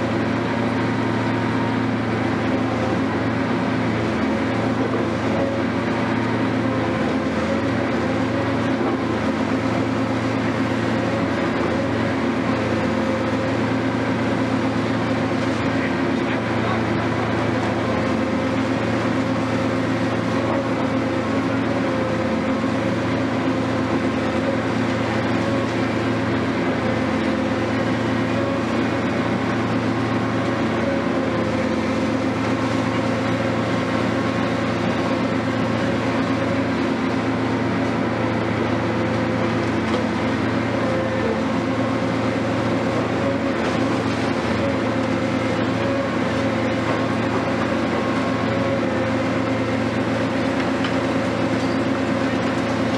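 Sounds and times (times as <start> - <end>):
excavator diesel engine droning: 0.0 - 52.9.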